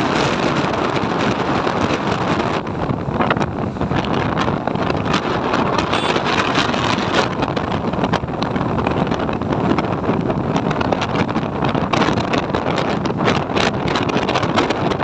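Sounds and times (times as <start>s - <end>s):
motorcycle running: 0.0s - 15.0s
wind buffeting microphone: 0.0s - 15.0s.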